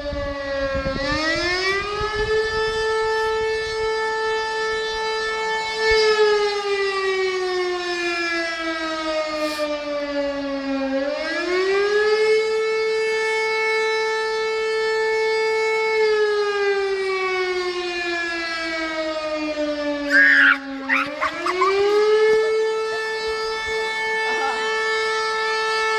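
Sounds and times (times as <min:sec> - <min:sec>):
warning siren wailing: 0:00.0 - 0:25.9.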